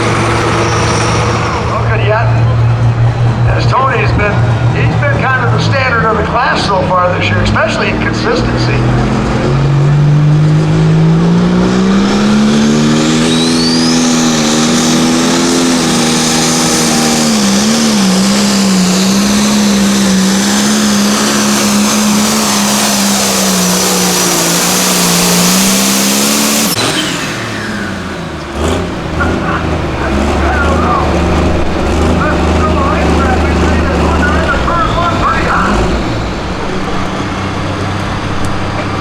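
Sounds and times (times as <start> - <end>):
tractor engine at full throttle: 0.0 - 39.0.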